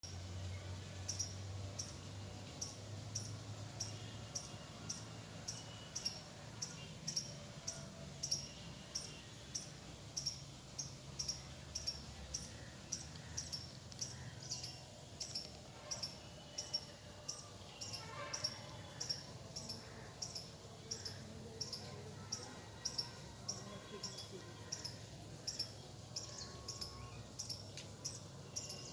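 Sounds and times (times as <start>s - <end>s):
cricket chirping: 0.0s - 28.9s.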